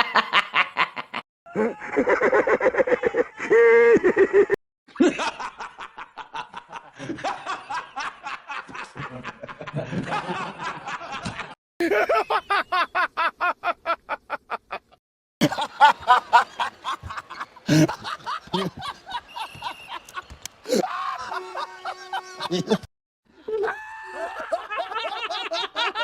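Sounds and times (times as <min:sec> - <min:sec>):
rapid laughing: 0:00.0 - 0:22.9
people snickering and chuckling: 0:00.0 - 0:26.0.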